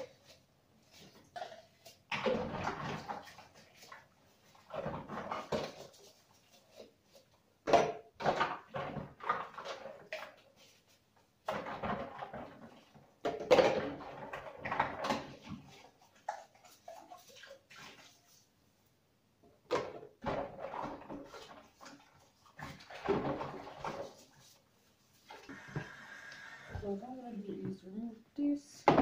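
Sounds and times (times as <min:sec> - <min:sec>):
water splashing in sink: 0:01.0 - 0:07.0, 0:07.7 - 0:18.5, 0:19.7 - 0:27.4.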